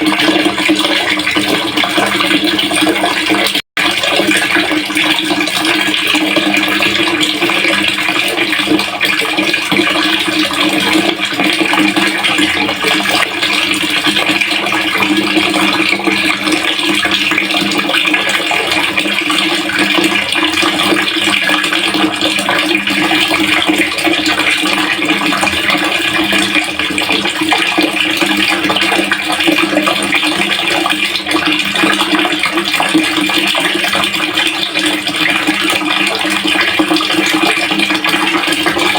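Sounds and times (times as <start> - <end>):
water running into a pail: 0.0 - 38.9.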